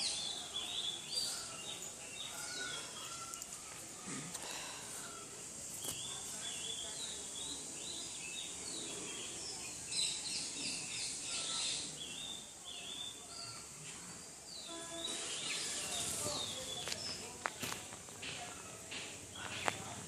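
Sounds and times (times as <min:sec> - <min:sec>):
birds chirping: 0:00.0 - 0:20.0
steady high hiss: 0:00.0 - 0:20.0.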